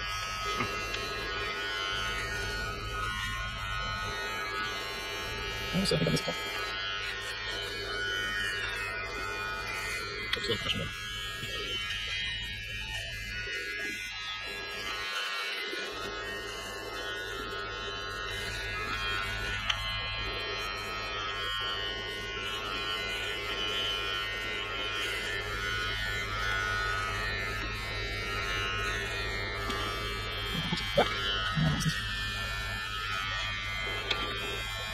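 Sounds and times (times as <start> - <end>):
electric trimmer buzzing: 0.0 - 34.9.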